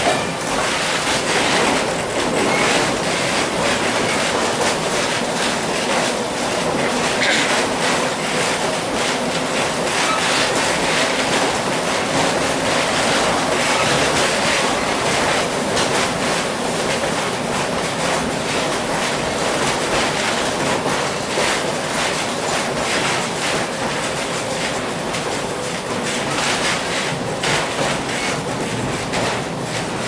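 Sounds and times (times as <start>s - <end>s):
streetcar rumbling and rattling: 0.0s - 30.0s.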